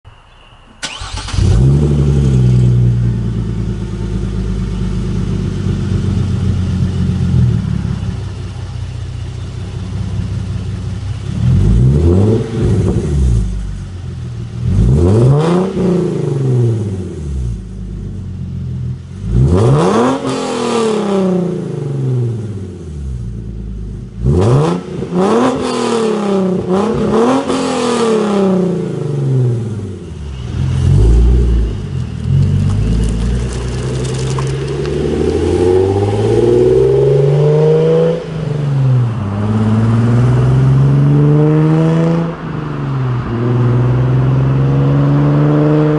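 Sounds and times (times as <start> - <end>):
car engine starting and idling: 0.2 - 45.4
car engine revving: 0.8 - 45.9.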